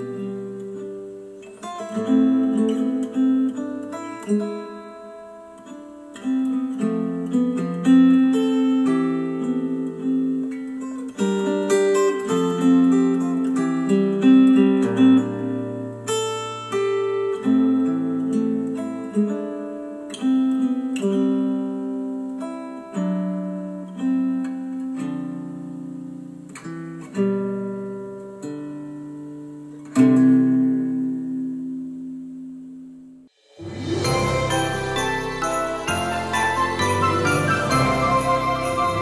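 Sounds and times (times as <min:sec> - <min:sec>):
acoustic guitar music over speakers: 0:00.0 - 0:39.0.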